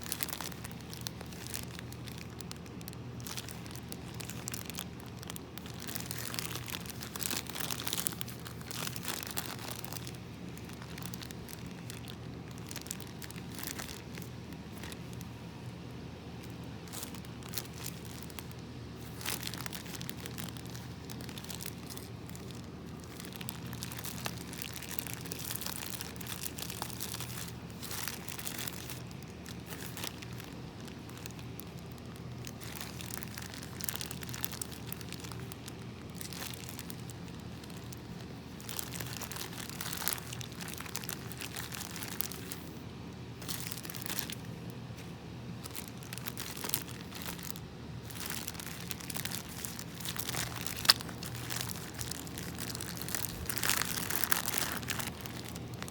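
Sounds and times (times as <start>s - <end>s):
low steady hum: 0.0s - 55.9s
slime crinkling and crackling: 0.0s - 55.9s.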